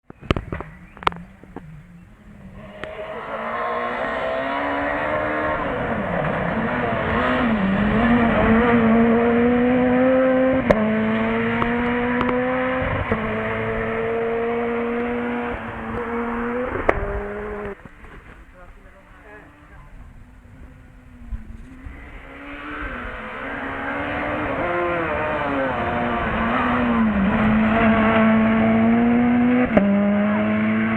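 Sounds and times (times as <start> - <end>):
rally car engine revving high: 0.1 - 30.9.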